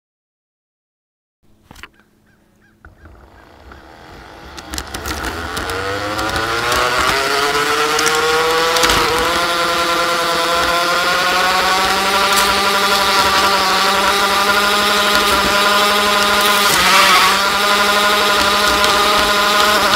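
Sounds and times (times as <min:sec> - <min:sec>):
model locomotive motor whining: 0:02.8 - 0:19.9
sharp clicks: 0:02.8 - 0:19.9.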